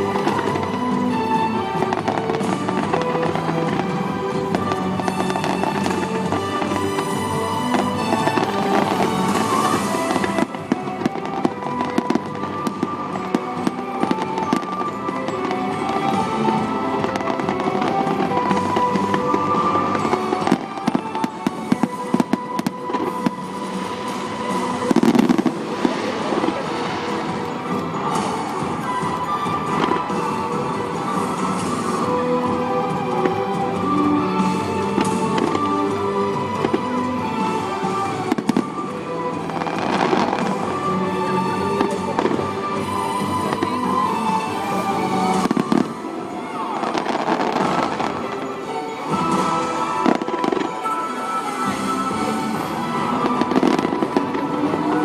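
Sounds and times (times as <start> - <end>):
fireworks bangs: 0.0 - 55.0
fireworks crackling: 0.0 - 55.0
music with held notes: 0.0 - 55.0.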